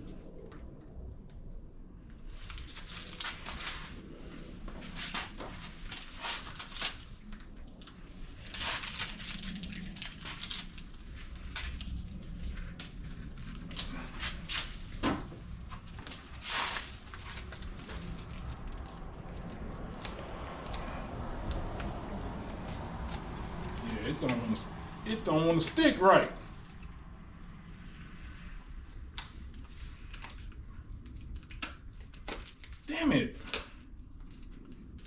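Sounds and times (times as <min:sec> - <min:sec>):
duct tape crinkling and tearing: 0:02.2 - 0:04.1, 0:04.9 - 0:15.0, 0:15.6 - 0:25.9, 0:29.0 - 0:35.0.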